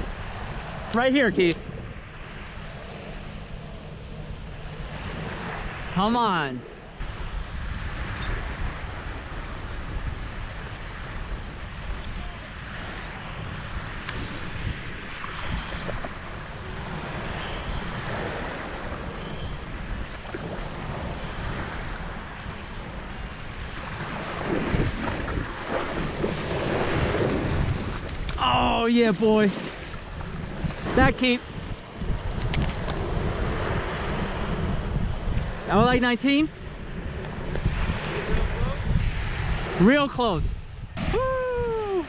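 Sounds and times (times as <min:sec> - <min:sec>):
waves washing on shore: 0:00.0 - 0:42.0
wind buffeting microphone: 0:00.0 - 0:42.0.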